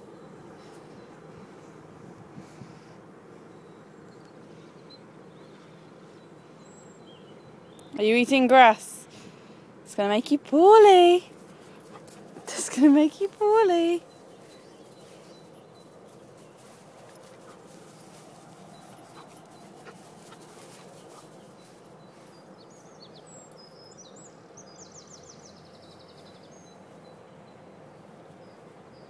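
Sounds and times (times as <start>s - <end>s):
faint ticks and rustles: 0.0s - 24.2s
outdoor air hiss: 0.0s - 29.0s.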